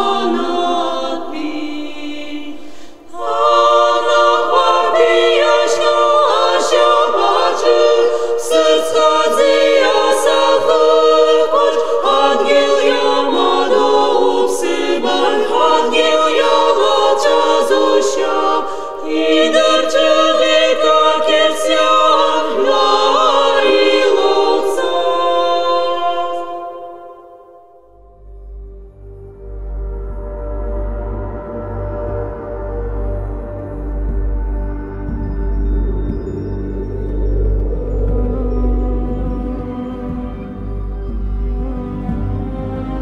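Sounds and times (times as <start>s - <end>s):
choir singing unaccompanied: 0.0s - 27.8s, 29.6s - 43.0s.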